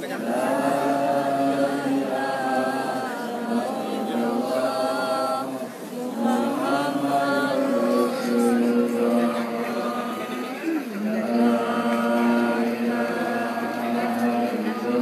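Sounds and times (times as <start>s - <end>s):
voices chanting in unison: 0.0s - 15.0s.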